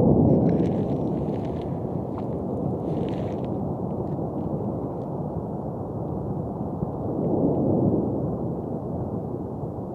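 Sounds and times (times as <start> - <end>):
lava fountain rushing: 0.0 - 9.9.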